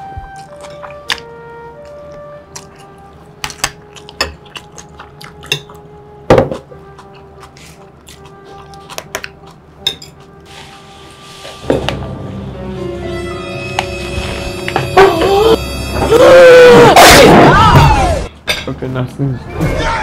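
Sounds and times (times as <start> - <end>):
soft background music: 0.0 - 17.7.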